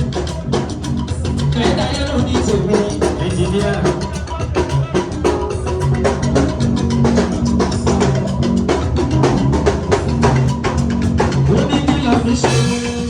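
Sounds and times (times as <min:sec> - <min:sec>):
drum kit beat: 0:00.0 - 0:13.0
held bass line: 0:00.0 - 0:13.0.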